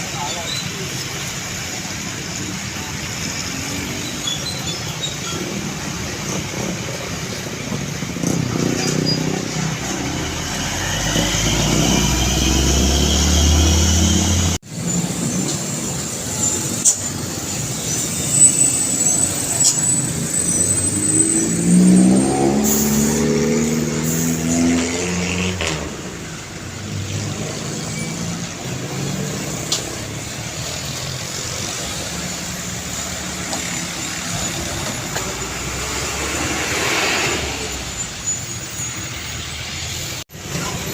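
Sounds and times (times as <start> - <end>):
truck engine accelerating: 0.2 - 39.0.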